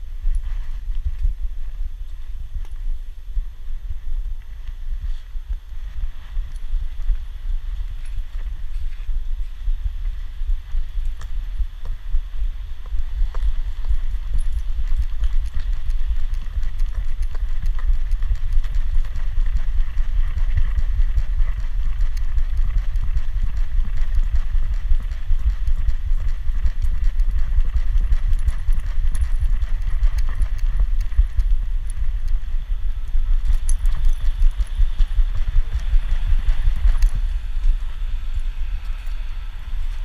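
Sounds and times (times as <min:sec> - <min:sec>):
low rumble: 0:00.0 - 0:40.0.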